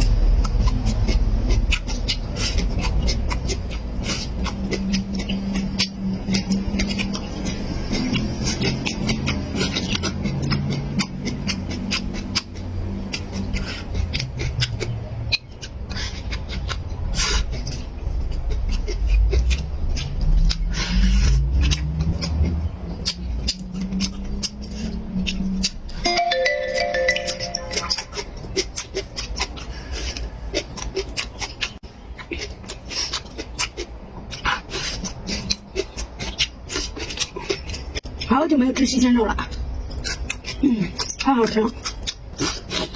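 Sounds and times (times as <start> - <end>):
wet chewing sounds: 0.0 - 26.0, 27.2 - 42.9.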